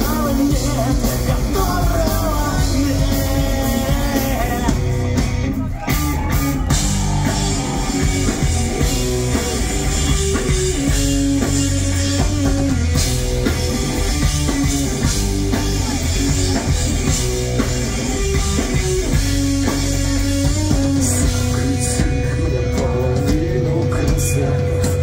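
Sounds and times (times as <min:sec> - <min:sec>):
rock band playing: 0:00.0 - 0:25.0.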